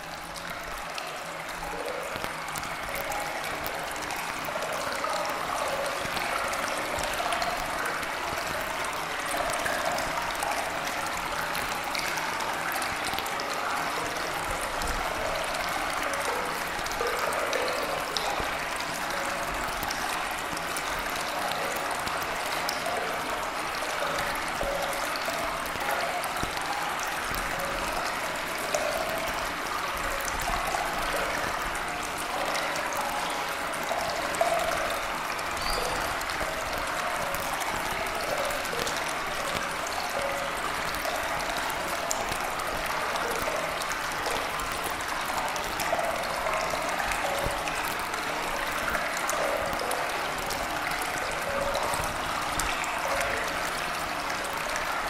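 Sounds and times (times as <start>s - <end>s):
faint droplet ticks: 0.0s - 55.0s
running water: 0.0s - 55.0s.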